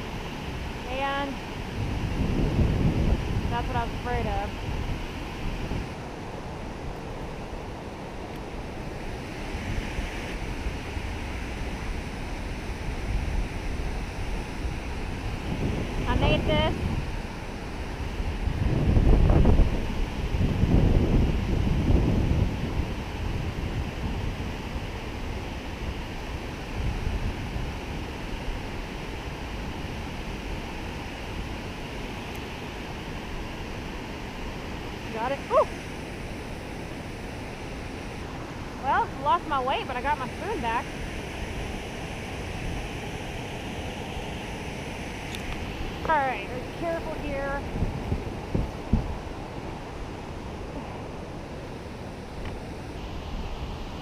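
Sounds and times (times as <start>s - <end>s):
river whitewater rushing over rocks: 0.0s - 54.0s
wind buffeting microphone: 0.0s - 54.0s.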